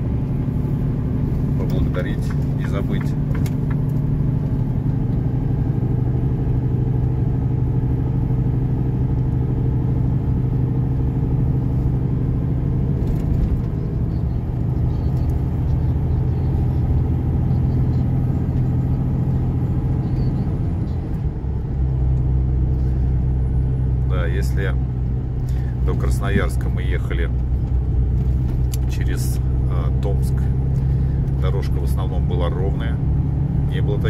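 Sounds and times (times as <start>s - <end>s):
diesel truck engine droning: 0.0s - 34.0s
road rumble: 0.0s - 34.0s.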